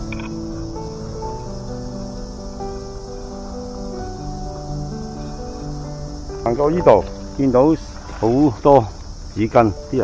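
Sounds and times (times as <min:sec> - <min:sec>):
calm background music: 0:00.0 - 0:10.0.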